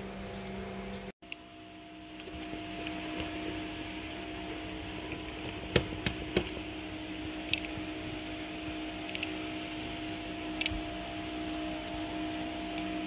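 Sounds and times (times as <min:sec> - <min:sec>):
two-tone mechanical hum: 0:00.0 - 0:13.0.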